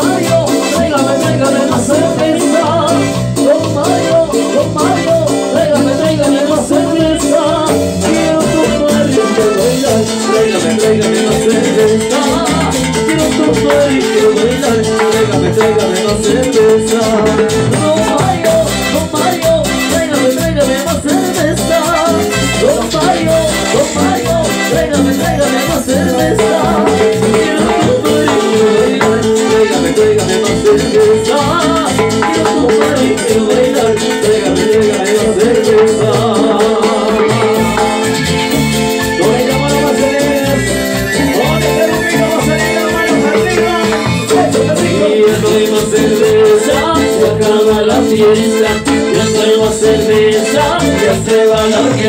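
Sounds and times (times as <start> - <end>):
latin dance band playing: 0.0 - 52.0
people singing: 0.0 - 52.0.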